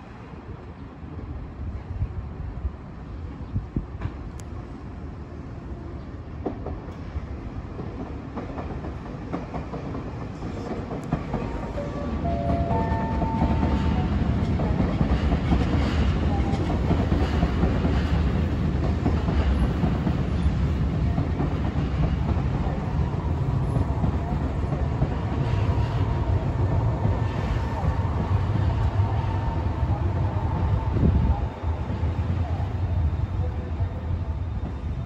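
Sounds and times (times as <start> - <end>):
train wheels rumbling on rails: 1.0 - 35.0.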